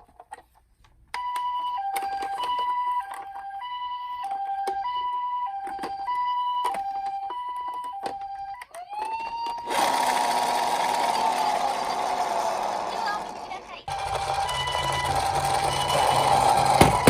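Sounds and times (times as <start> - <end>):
toy electronic siren: 1.1 - 17.0.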